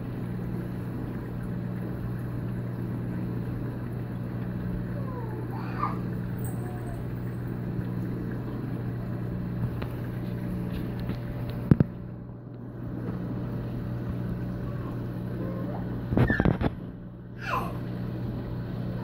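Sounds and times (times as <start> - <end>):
water circulation rushing: 0.0 - 16.3
aquarium pumps humming: 0.0 - 19.0.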